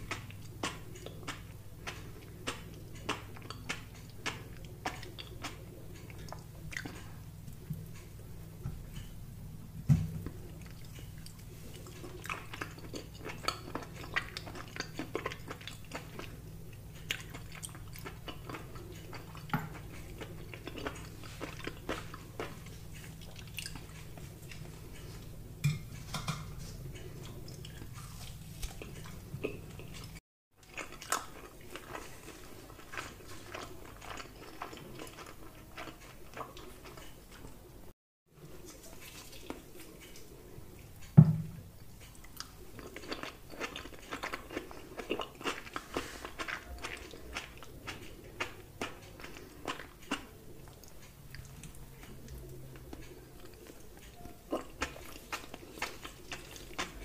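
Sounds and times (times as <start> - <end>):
chewing and biting food: 0.0 - 8.1, 10.2 - 25.3, 26.9 - 37.6, 41.8 - 57.0.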